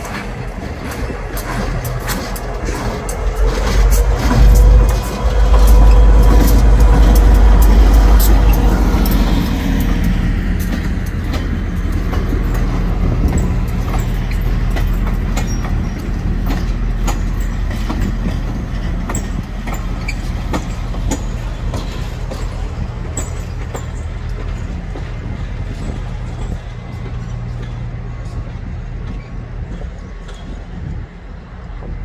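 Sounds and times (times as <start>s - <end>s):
train low rumble: 0.0s - 32.0s
train wheels clicking on rails: 0.0s - 32.0s.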